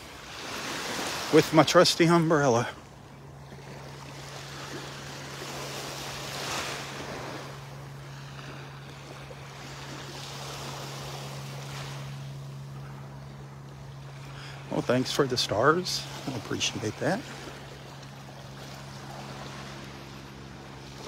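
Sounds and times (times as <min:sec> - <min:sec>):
steady low hum: 0:00.0 - 0:21.0
surf washing on sandy shore: 0:00.0 - 0:21.0.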